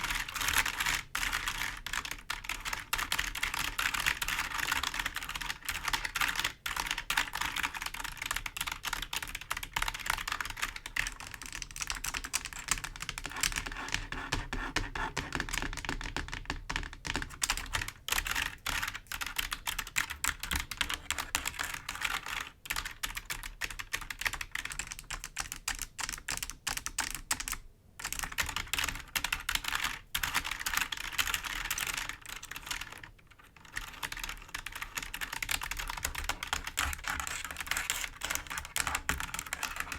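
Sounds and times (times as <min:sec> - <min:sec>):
fingers typing on computer keyboard: 0:00.0 - 0:39.9.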